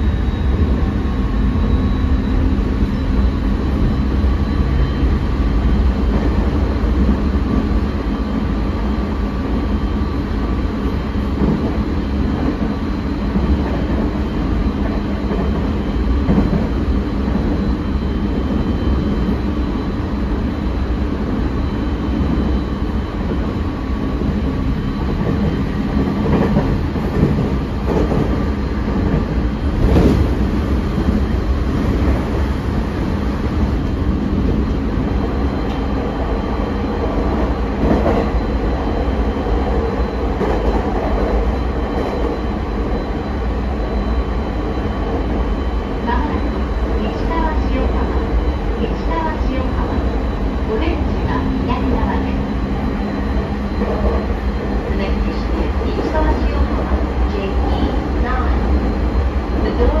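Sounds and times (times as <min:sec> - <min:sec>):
train wheels rumbling on rail: 0:00.0 - 1:00.0.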